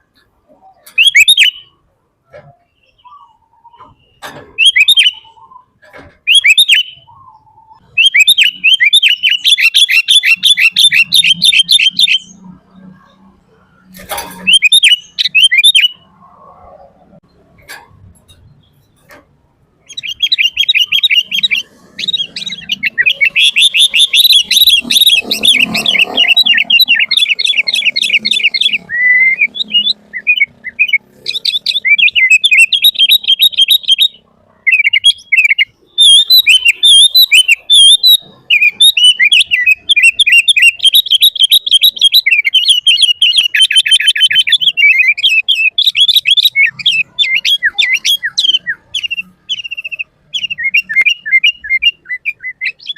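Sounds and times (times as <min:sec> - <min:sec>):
bird chirping and trilling: 0:00.0 - 0:52.9.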